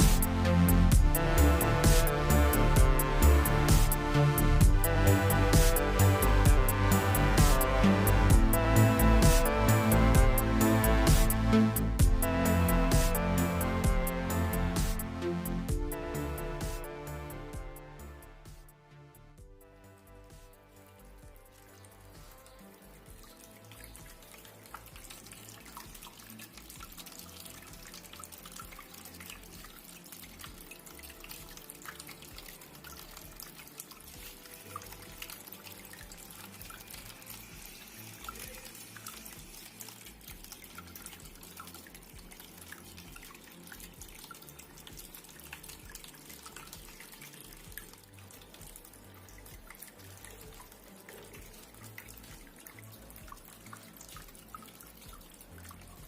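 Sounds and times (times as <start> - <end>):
water trickling and dripping: 0.0 - 56.0.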